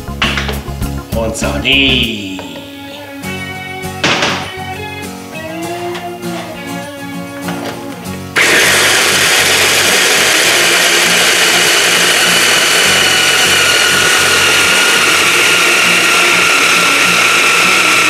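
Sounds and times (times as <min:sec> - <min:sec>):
electric hand blender whining: 0:02.6 - 0:18.0.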